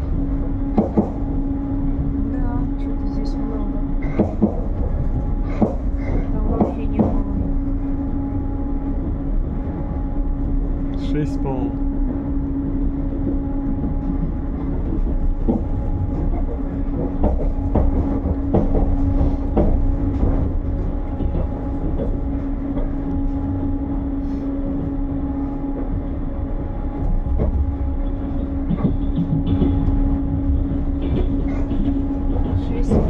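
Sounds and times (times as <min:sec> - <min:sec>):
wheels clicking on rails: 0:00.0 - 0:07.7, 0:11.8 - 0:23.8, 0:25.0 - 0:33.0
train carriage rumble: 0:00.0 - 0:33.0.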